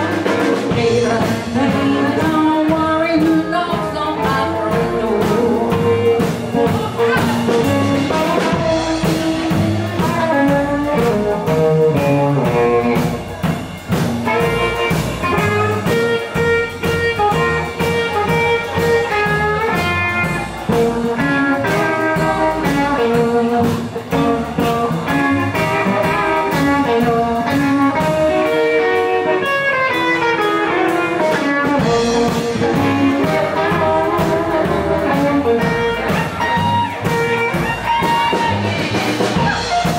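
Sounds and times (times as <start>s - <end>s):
guitar: 0.0s - 39.9s
live band playing blues: 0.0s - 39.9s.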